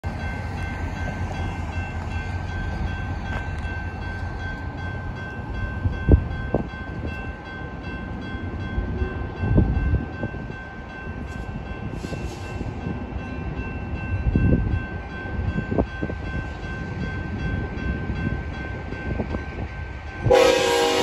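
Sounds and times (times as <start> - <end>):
railroad crossing bell ringing: 0.0 - 21.0.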